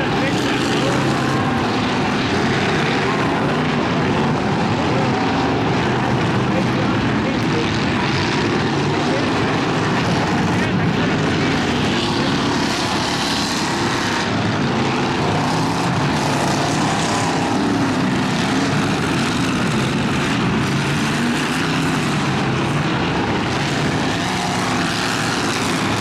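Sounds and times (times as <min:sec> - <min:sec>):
race truck engines revving: 0:00.0 - 0:26.0.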